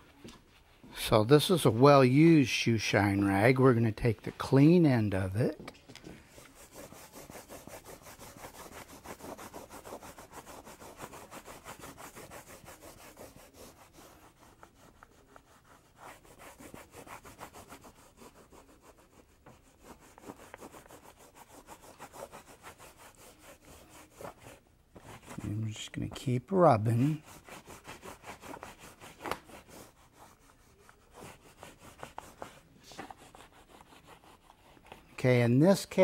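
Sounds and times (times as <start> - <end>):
rag rubbing leather: 6.3 - 35.4.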